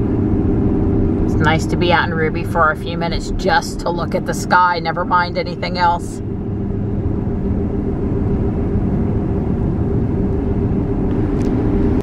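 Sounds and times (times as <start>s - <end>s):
car road and tyre noise: 0.0s - 12.0s.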